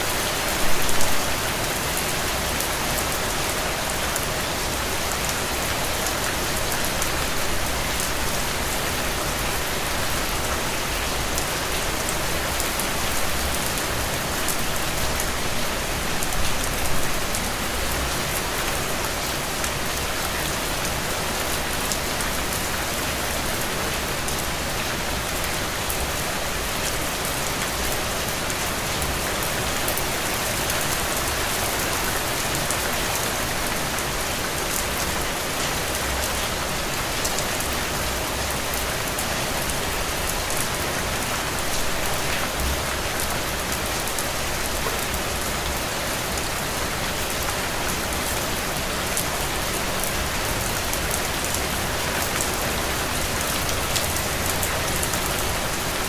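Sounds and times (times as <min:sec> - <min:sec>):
heavy rain on soil and puddles: 0:00.0 - 0:56.0.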